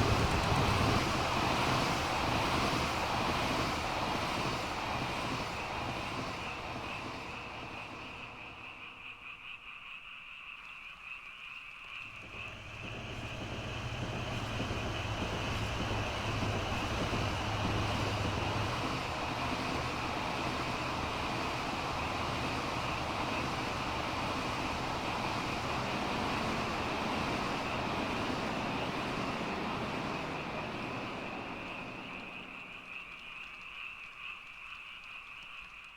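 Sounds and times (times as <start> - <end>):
vehicle passing: 0.0 - 8.9, 12.1 - 33.1.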